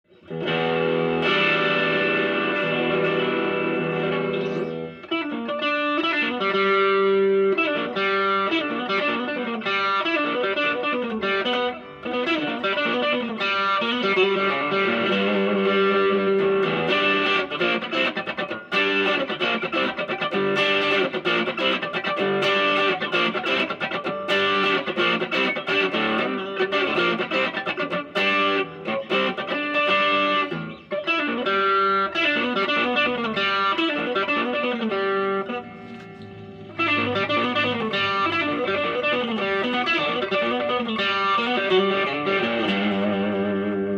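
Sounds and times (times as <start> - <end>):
electric guitar with effects: 0.0 - 43.9.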